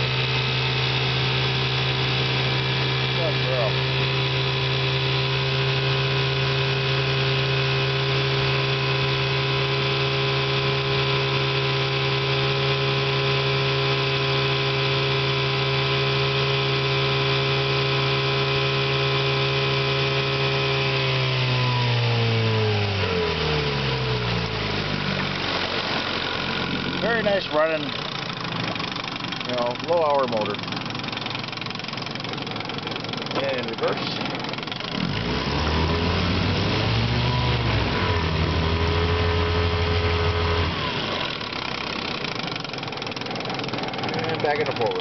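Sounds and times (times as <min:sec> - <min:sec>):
outboard motor running: 0:00.0 - 0:45.0.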